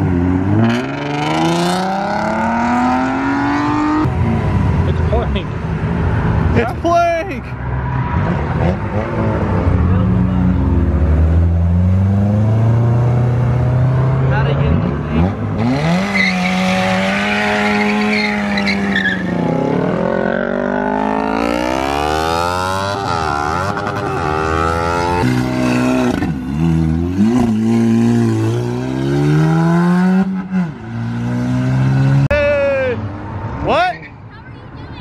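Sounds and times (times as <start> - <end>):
car engine revving: 0.0 - 6.6, 7.7 - 33.6.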